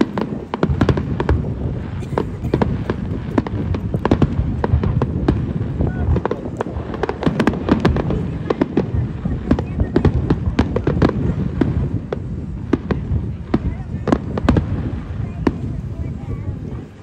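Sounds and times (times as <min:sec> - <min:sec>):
deep rumble: 0:00.0 - 0:17.0
fireworks bursts and crackles: 0:00.0 - 0:17.0.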